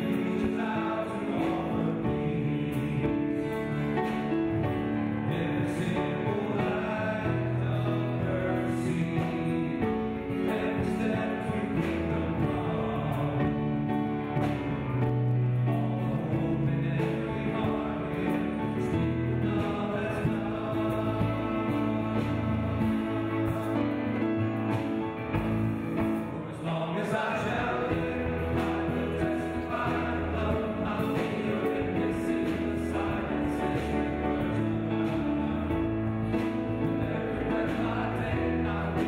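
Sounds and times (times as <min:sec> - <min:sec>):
crowd of men singing along: 0:00.0 - 0:14.7, 0:15.5 - 0:24.8, 0:26.2 - 0:39.0
man singing: 0:00.0 - 0:39.0
piano and band: 0:00.0 - 0:39.0.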